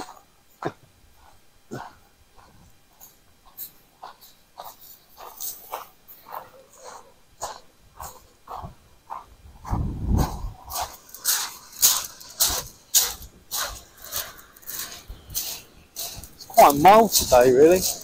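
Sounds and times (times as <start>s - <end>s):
footsteps crunching on pebbles: 0.0s - 18.0s.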